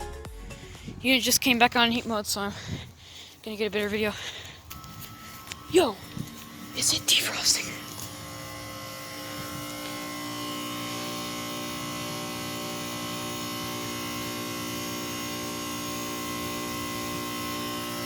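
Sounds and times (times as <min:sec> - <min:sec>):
heat pump compressor humming: 0:02.2 - 0:18.0.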